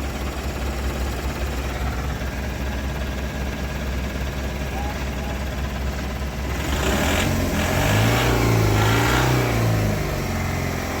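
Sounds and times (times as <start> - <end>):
diesel engine idling and revving: 0.0 - 11.0.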